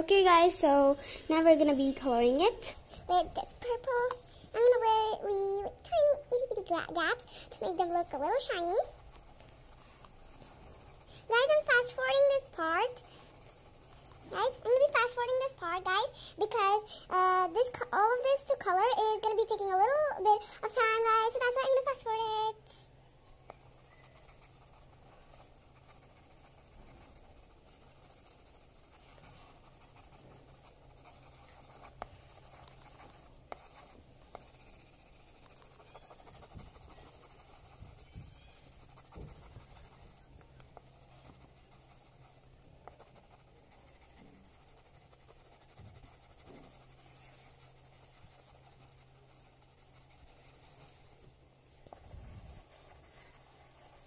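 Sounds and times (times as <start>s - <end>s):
low steady hum: 0.0s - 54.0s
pencil scratching on paper: 1.3s - 16.9s, 17.6s - 22.6s, 23.4s - 54.0s.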